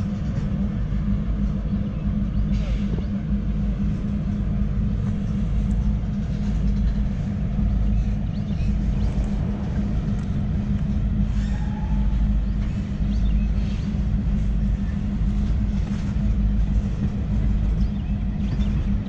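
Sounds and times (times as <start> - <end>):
diesel locomotive engine idling: 0.0 - 19.0.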